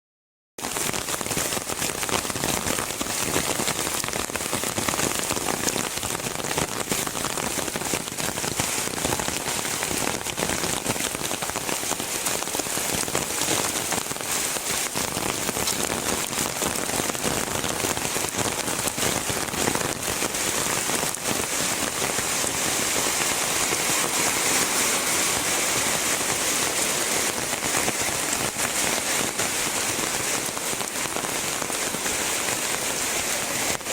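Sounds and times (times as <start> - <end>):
heavy rain falling: 0.6 - 33.9.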